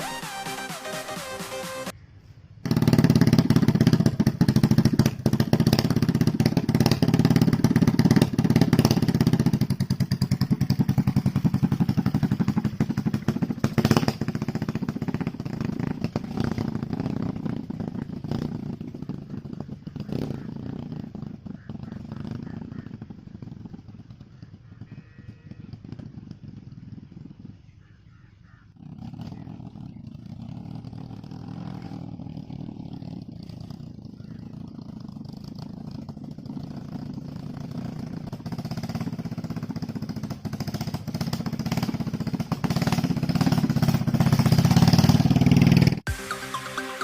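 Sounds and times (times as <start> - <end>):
motorcycle engine running: 2.6 - 47.0.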